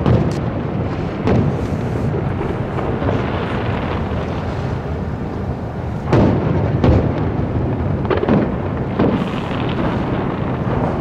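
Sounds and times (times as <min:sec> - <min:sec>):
background rumble: 0:00.0 - 0:11.0
fireworks booming: 0:00.0 - 0:11.0.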